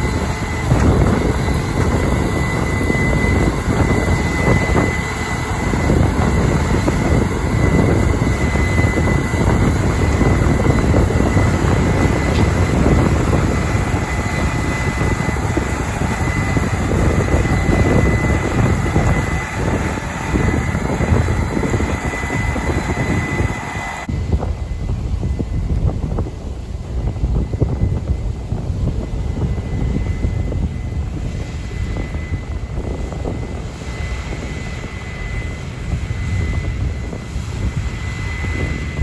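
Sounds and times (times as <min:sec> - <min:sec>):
combine engine and threshing drone: 0:00.0 - 0:39.0
constant high whine: 0:00.0 - 0:39.0.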